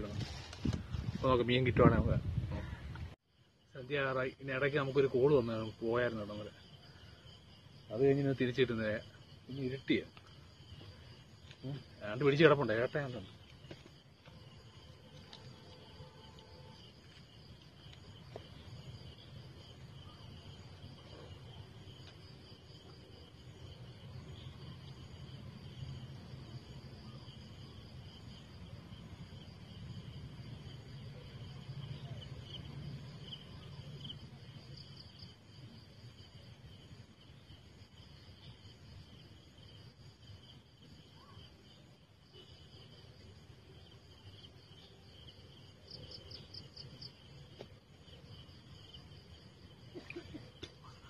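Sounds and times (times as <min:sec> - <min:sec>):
insects chirping chorus: 0:00.0 - 0:51.0.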